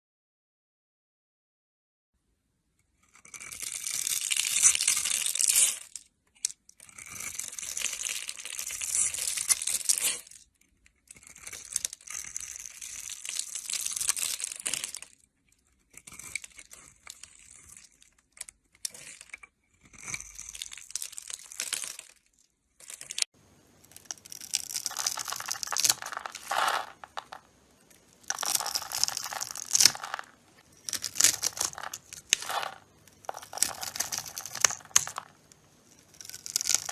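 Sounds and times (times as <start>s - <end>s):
knife scraping soap: 2.8s - 23.2s, 23.8s - 36.9s.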